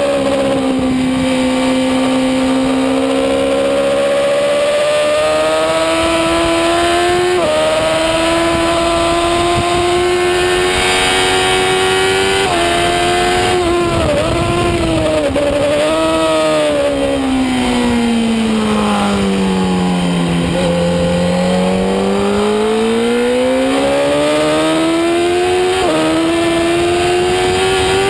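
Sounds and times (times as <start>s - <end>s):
motorcycle engine at high revs: 0.0s - 28.0s
rushing wind: 0.0s - 28.0s.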